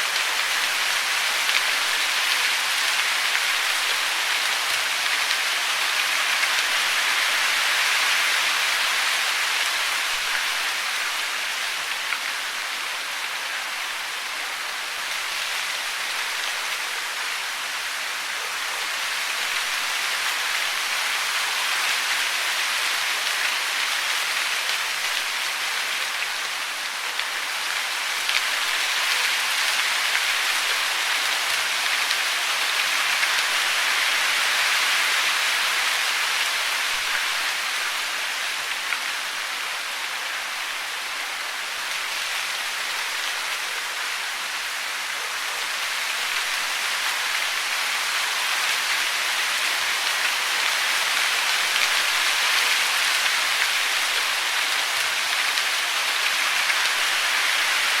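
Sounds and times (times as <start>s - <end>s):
falling water hiss: 0.0s - 58.0s.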